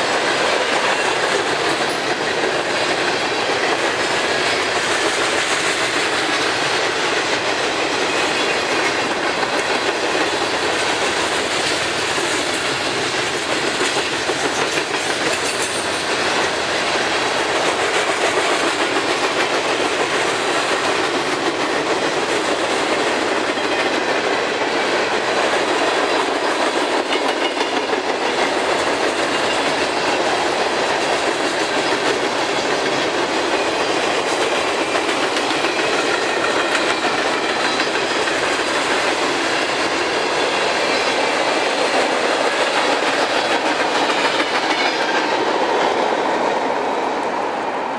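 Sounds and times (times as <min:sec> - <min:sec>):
freight train cars rolling past: 0:00.0 - 0:47.9.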